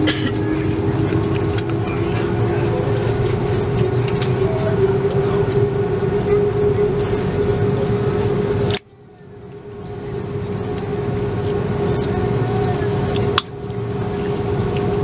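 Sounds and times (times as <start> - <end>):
airliner engine drone: 0.0 - 15.0.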